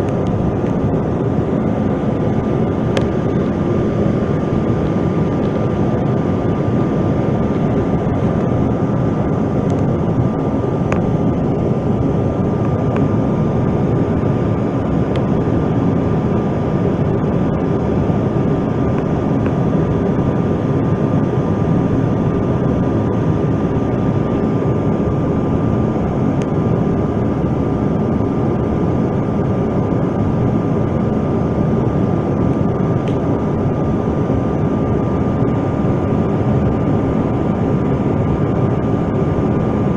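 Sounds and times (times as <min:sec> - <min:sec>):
jet cabin engine roar: 0:00.0 - 0:39.9.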